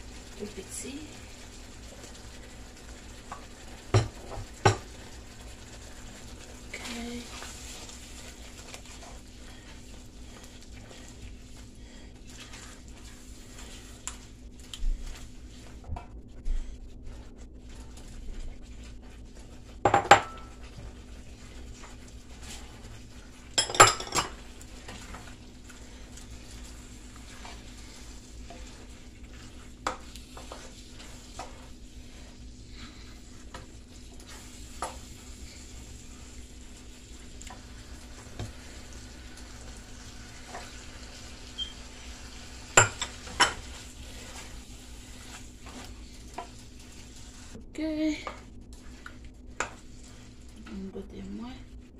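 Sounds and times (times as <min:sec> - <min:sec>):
spatula scraping a wok: 0:00.0 - 0:14.4, 0:16.6 - 0:47.6, 0:48.2 - 0:50.5
light sizzling: 0:00.0 - 0:51.9
low steady hum: 0:00.0 - 0:51.9.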